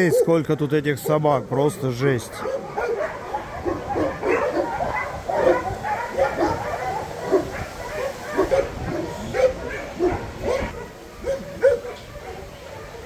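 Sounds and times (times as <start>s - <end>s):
many dogs barking and yipping: 0.0s - 13.0s.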